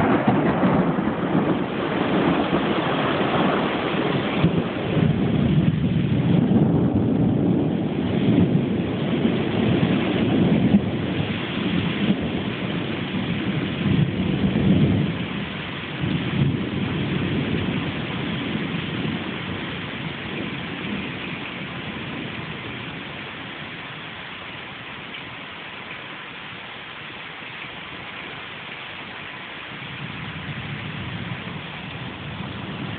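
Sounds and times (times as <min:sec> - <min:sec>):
rolling thunder: 0:00.0 - 0:24.0, 0:29.7 - 0:32.9
steady rain: 0:00.0 - 0:32.9.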